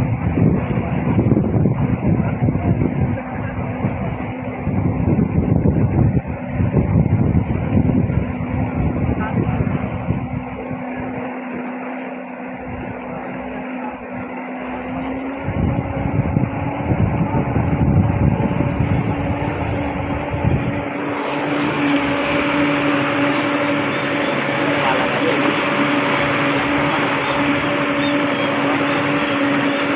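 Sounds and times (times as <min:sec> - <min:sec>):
outboard motor humming: 0:00.0 - 0:29.9
propeller wash rushing water: 0:00.0 - 0:29.9.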